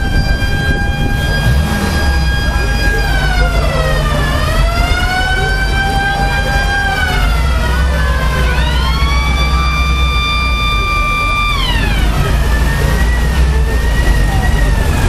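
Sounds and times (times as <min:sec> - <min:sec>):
jeep engines idling: 0:00.0 - 0:15.0
siren-like wailing tone: 0:00.0 - 0:15.0.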